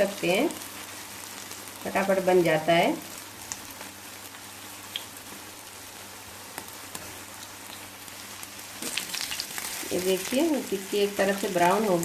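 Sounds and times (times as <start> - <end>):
patties sizzling in oil: 0.0 - 12.0.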